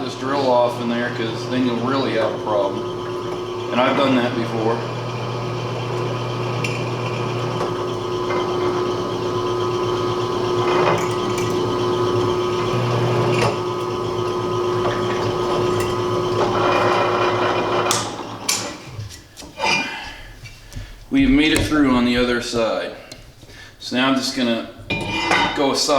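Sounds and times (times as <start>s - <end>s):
drill press humming: 0.0s - 18.9s, 20.8s - 24.5s.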